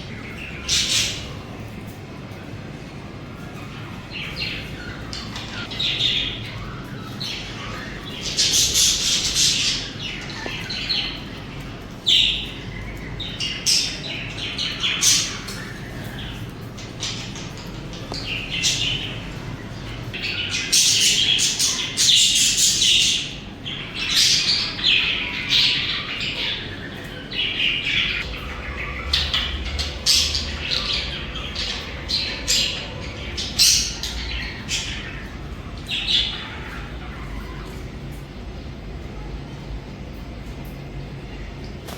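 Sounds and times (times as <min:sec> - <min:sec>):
budgerigars chirping and squawking: 0:00.0 - 0:02.4, 0:03.4 - 0:38.7.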